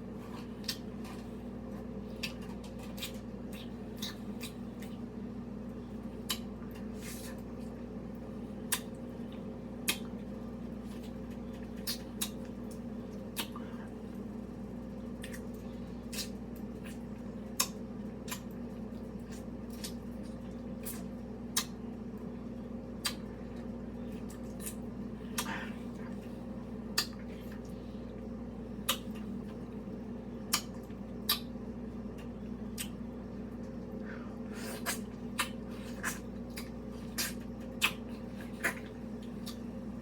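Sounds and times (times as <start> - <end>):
steady low hum: 0.0 - 40.0
person eating wet smacks: 0.3 - 5.1, 5.9 - 14.2, 15.1 - 21.8, 22.9 - 29.8, 30.4 - 39.8.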